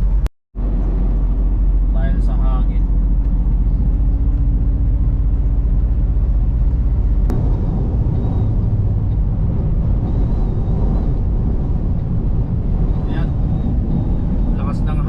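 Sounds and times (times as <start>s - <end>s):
truck road and engine rumble: 0.0s - 15.0s.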